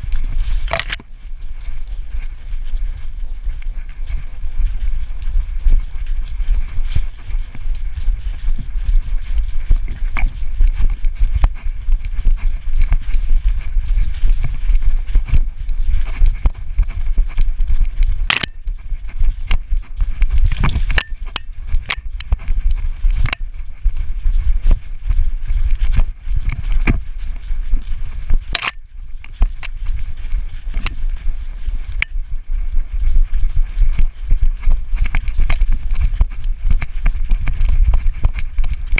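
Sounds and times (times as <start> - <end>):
camera shaking rumble: 0.0 - 38.9
leaves rustling and crackling: 0.0 - 38.9.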